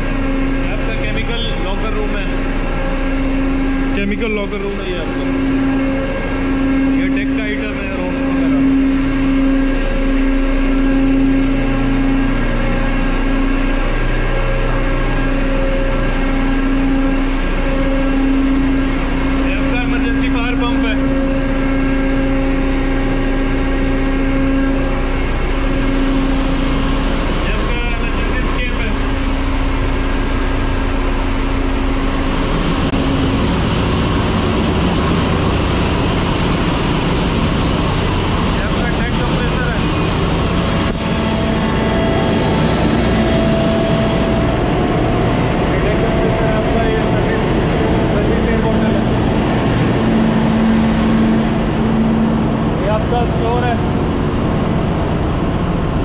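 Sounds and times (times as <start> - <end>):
engine room machinery drone: 0.0 - 56.0.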